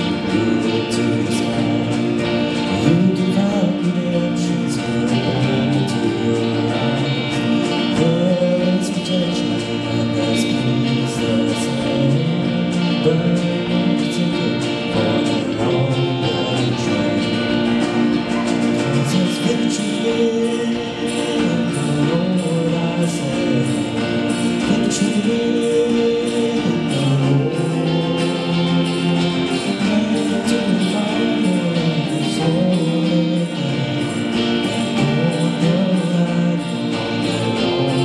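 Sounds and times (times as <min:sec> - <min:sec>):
acoustic guitar: 0:00.0 - 0:38.0
bass guitar: 0:00.0 - 0:38.0
electric guitar: 0:00.0 - 0:38.0.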